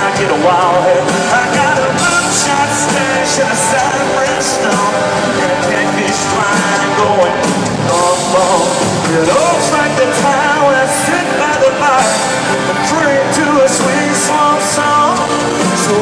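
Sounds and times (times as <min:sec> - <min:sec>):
live country-rock band: 0:00.0 - 0:16.0
person singing: 0:00.0 - 0:16.0.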